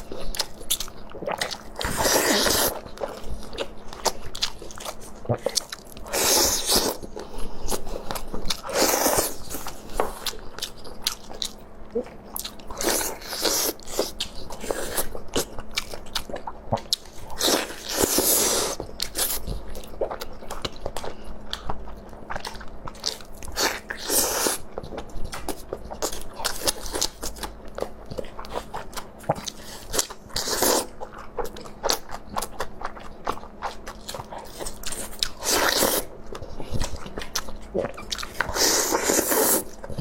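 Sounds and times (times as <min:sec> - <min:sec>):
person chewing crunchy food: 0:00.0 - 0:40.0.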